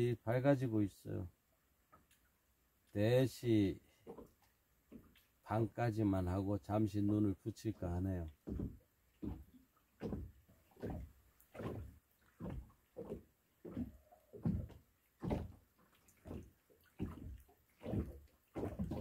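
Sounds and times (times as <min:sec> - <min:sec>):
waves slapping against boat hull: 0:02.9 - 0:19.0.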